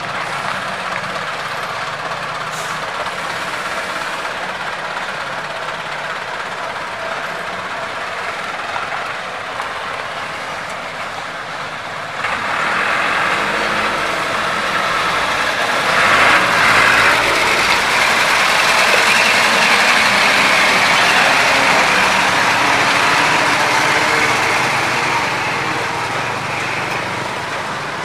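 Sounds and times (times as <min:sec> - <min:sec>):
road noise: 0:00.0 - 0:28.0
truck engine running: 0:00.0 - 0:28.0.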